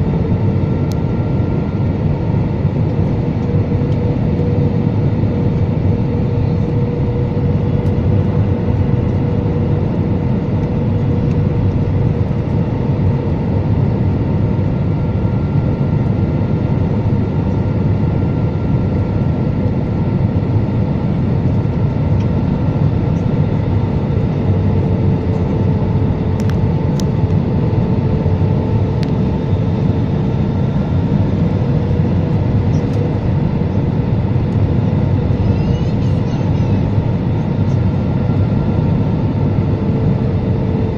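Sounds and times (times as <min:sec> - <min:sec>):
jet engine and airflow rumble: 0:00.0 - 0:40.9
steady whine: 0:00.0 - 0:40.9.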